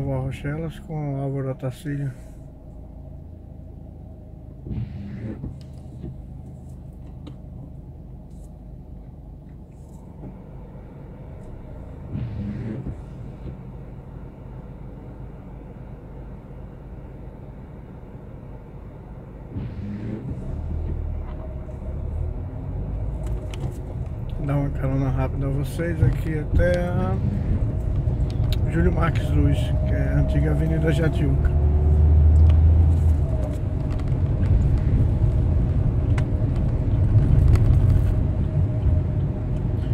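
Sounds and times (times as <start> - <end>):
car engine rumble: 0.0 - 39.9.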